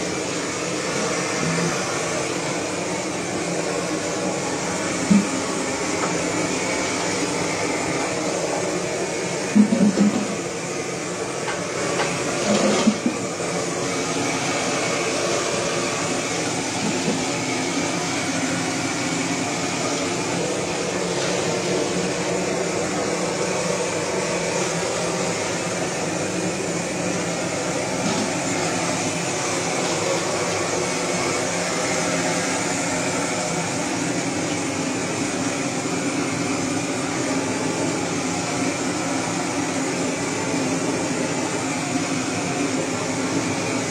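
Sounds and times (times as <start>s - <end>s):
gas blowtorch rushing: 0.0s - 43.9s.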